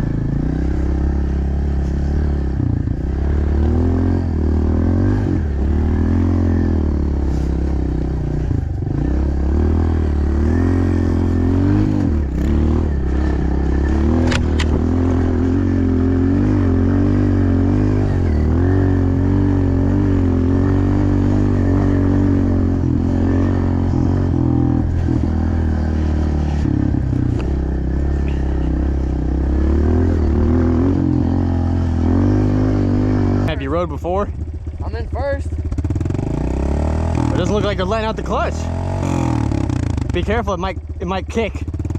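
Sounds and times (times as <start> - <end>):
pit bike engine revving: 0.0 - 41.9.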